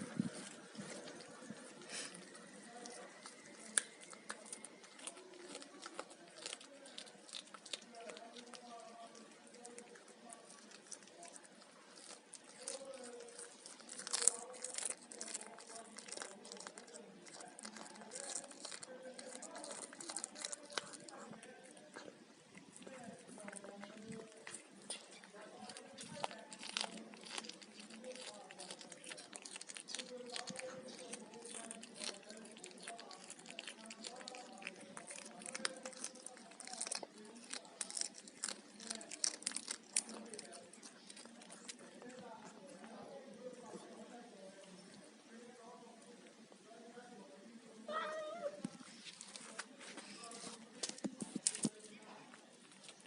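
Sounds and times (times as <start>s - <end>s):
cat chewing fish: 0.0s - 44.2s, 47.9s - 53.0s.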